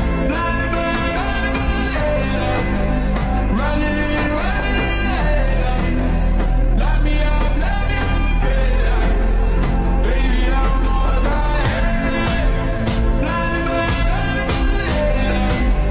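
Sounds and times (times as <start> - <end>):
song with singing voice: 0.0 - 15.9.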